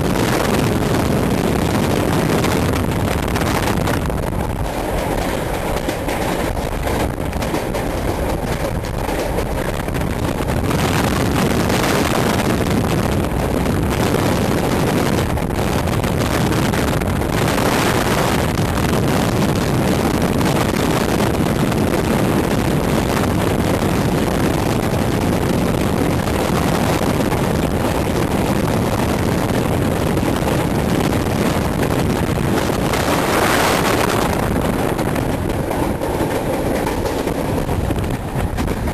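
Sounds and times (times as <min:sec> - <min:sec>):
train wheels rumbling on rails: 0:00.0 - 0:38.9
wind rushing over microphone: 0:00.0 - 0:38.9.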